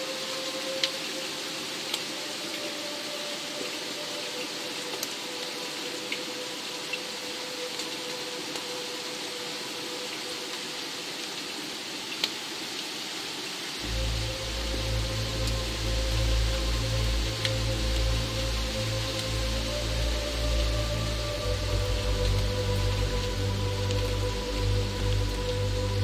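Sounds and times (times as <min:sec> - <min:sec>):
ambient music: 0:00.0 - 0:11.9, 0:13.8 - 0:26.0
steady rain falling: 0:00.0 - 0:26.0.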